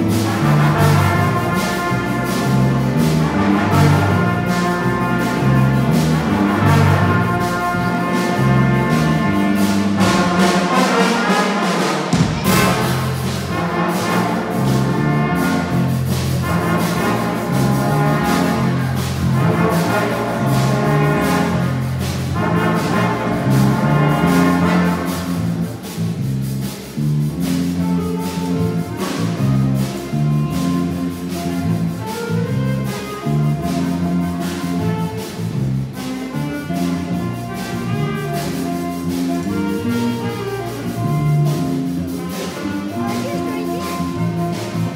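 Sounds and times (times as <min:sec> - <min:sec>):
bass line: 0:00.0 - 0:11.1, 0:12.1 - 0:44.9
brass section playing jazz: 0:00.0 - 0:44.9
drum kit with cymbals: 0:00.0 - 0:44.9.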